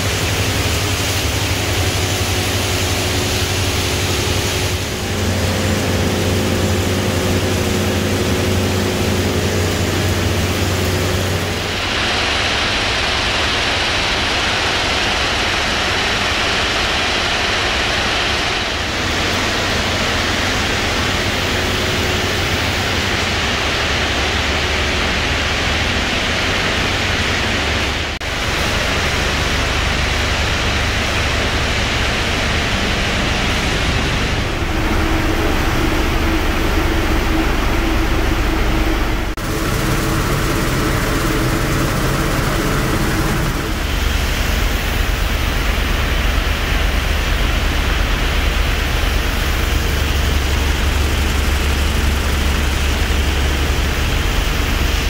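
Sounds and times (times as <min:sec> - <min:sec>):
industrial machine noise: 0:00.0 - 0:55.0
steady hum: 0:00.0 - 0:55.0.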